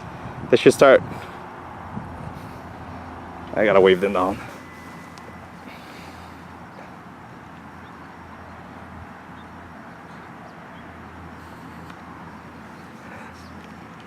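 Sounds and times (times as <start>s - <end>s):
outdoor background hum: 0.0s - 14.0s.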